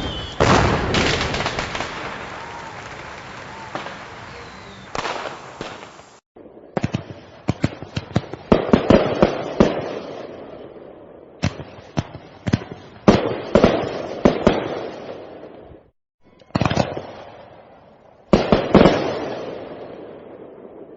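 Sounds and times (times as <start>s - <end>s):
fireworks bangs: 0.0s - 10.6s, 11.4s - 15.4s, 18.3s - 20.9s.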